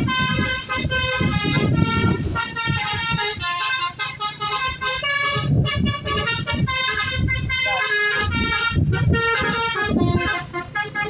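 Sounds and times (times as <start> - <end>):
musical air horn melody: 0.0 - 11.0.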